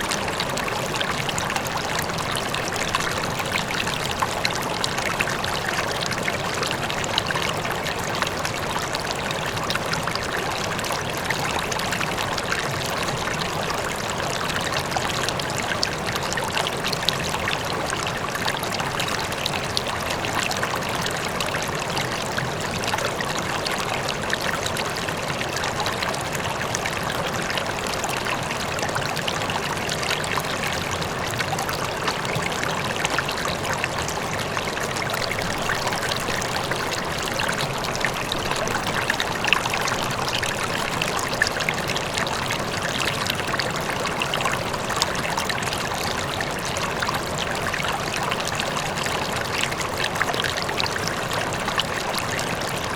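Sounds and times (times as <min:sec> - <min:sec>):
distant waterfall: 0:00.0 - 0:52.9
river water flowing over rocks: 0:00.0 - 0:52.9.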